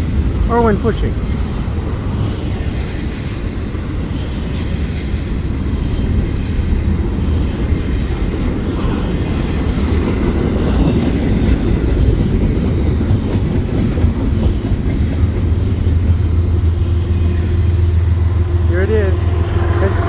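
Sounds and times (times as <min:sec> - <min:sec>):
freight train wheels rumbling on rail: 0:00.0 - 0:20.0.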